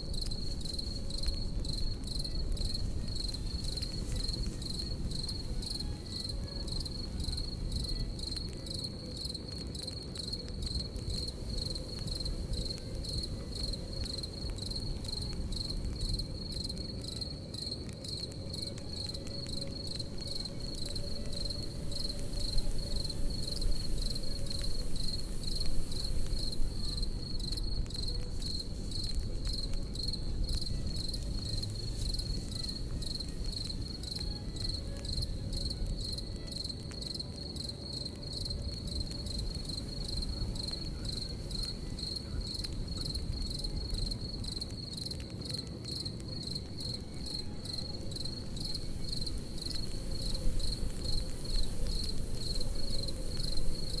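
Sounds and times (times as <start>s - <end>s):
campfire crackling: 0.0s - 54.0s
crickets chirping: 0.0s - 54.0s.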